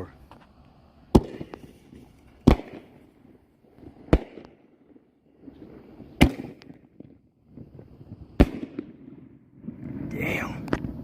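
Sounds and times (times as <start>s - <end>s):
firework bangs with crackle: 1.1s - 11.0s.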